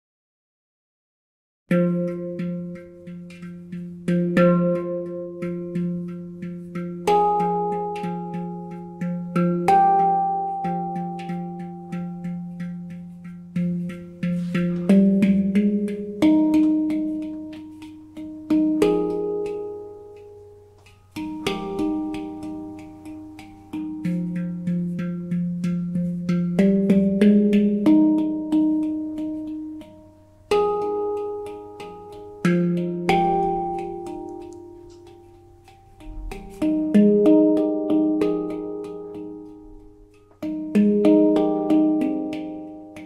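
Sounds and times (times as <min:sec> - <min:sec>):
handpan notes ringing: 0:01.7 - 0:43.0.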